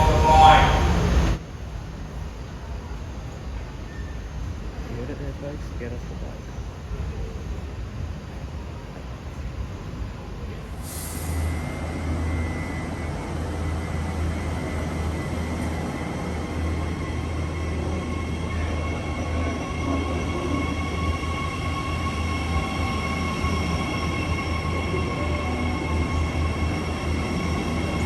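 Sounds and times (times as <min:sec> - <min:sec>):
electric train humming: 0:00.0 - 0:28.0.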